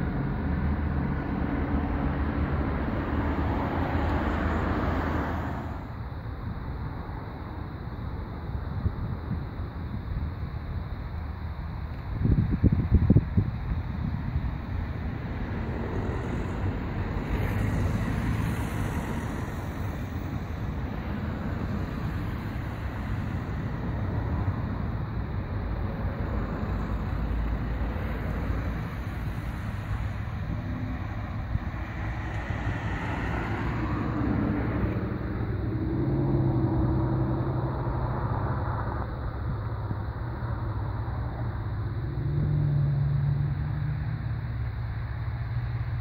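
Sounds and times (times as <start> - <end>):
radial aircraft engines droning: 0.0 - 12.2, 13.0 - 46.0.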